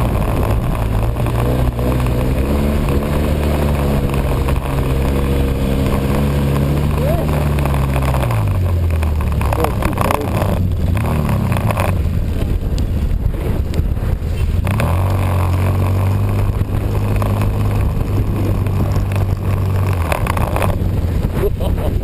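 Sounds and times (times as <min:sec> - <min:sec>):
off-road vehicle engine: 0:00.0 - 0:22.0.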